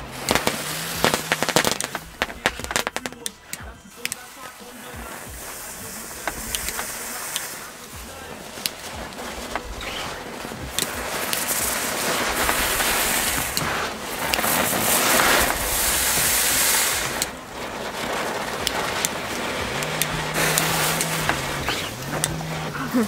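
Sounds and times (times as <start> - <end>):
firework hissing and crackling: 0.0 - 23.0.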